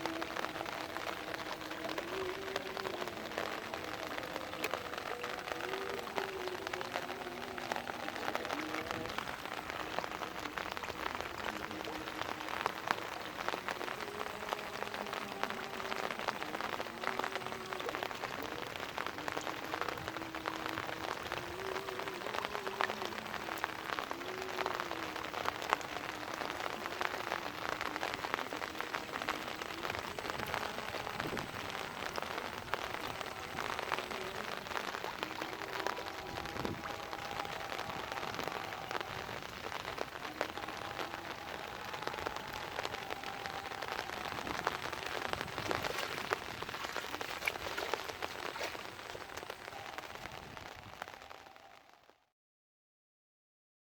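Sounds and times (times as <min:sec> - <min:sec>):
rain falling: 0:00.0 - 0:52.1.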